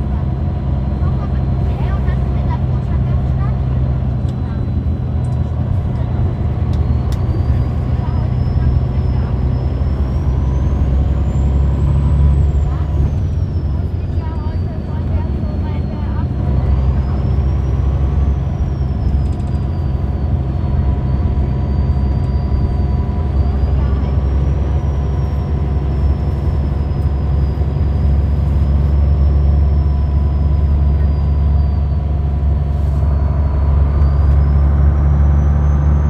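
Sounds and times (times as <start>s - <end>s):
bus diesel engine drone: 0.0s - 36.0s.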